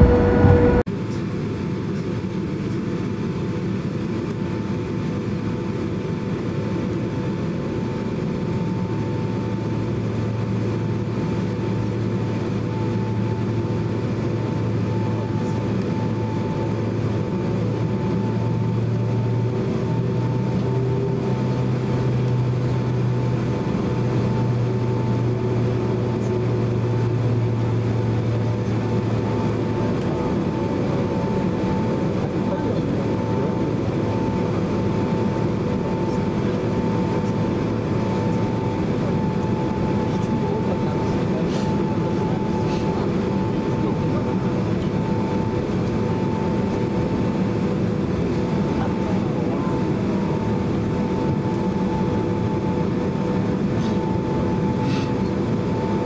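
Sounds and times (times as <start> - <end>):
deep drone: 0.0 - 1.0, 8.8 - 56.0
jet engines humming with whine: 0.0 - 56.0.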